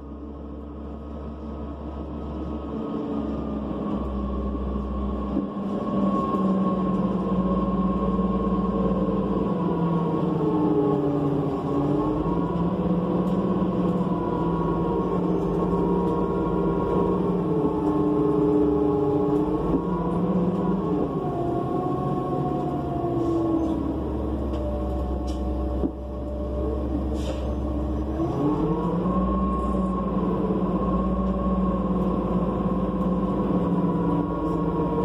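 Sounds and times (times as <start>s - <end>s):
bus engine and transmission: 0.0s - 35.0s.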